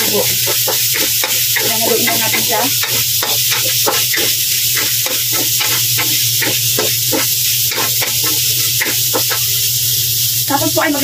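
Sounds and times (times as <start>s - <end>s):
wooden spoon scraping a wok: 0.0s - 9.6s
meat sizzling in a wok: 0.0s - 11.0s.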